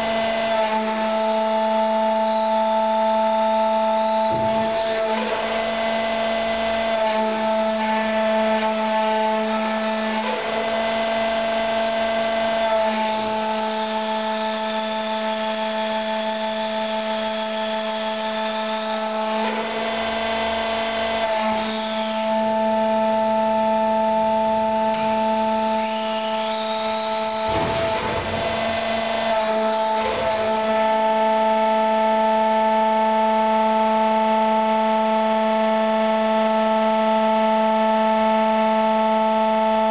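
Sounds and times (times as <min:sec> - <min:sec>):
gliding machine whine: 0:00.0 - 0:39.9
machinery humming: 0:00.0 - 0:39.9.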